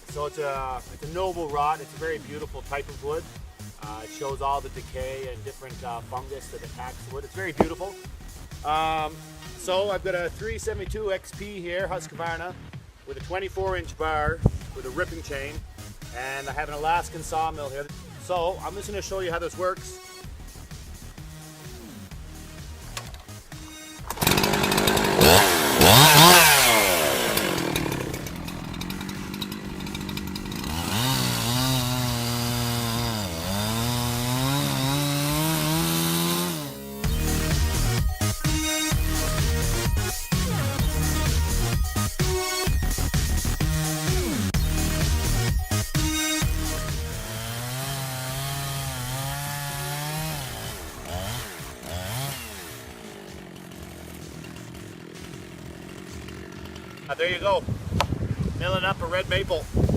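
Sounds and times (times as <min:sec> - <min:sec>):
chainsaw ripping a log: 0:00.0 - 0:10.8, 0:14.3 - 0:58.7.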